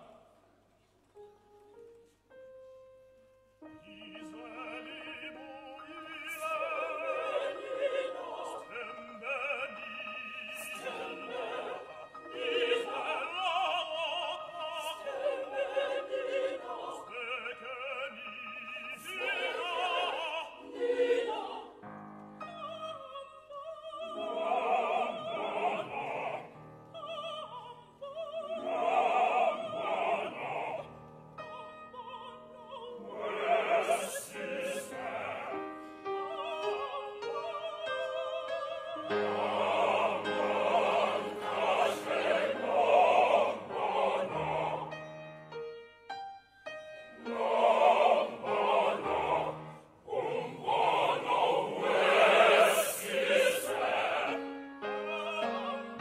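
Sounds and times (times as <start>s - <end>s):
mixed choir singing: 0.0s - 0.4s, 3.7s - 45.5s, 47.1s - 56.0s.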